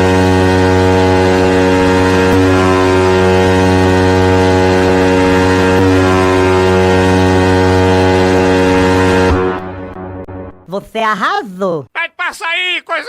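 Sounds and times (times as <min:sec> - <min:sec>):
low horn-like drone: 0:00.0 - 0:10.6.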